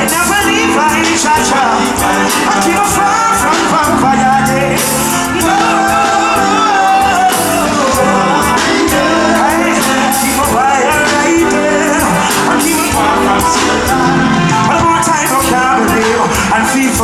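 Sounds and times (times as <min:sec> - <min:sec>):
live reggae band playing: 0:00.0 - 0:17.0.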